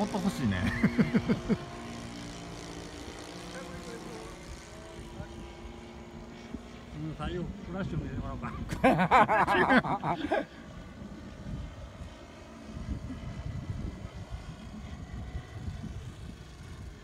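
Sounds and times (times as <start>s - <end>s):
distant model planes droning: 0.0s - 17.0s.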